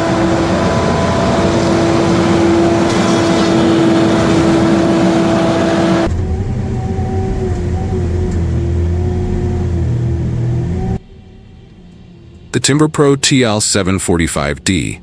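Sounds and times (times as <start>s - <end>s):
heavy machinery engine whine: 0.0s - 15.0s
machine deep hum and whine: 0.0s - 15.0s.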